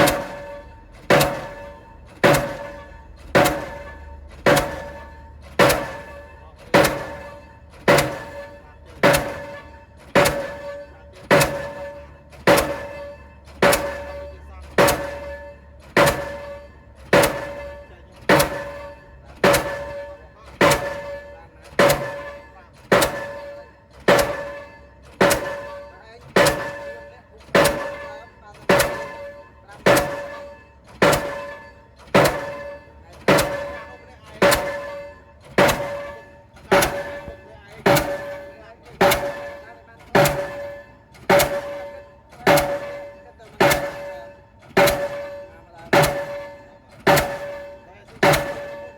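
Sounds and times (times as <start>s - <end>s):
pile hammer striking with metallic ring: 0.0s - 48.9s.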